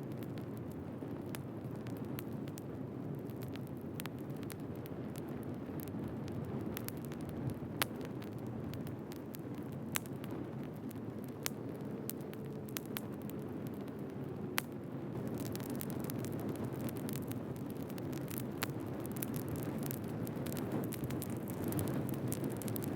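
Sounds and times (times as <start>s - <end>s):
fire crackling and popping: 0.0s - 22.9s
low rumble of flames: 0.0s - 22.9s.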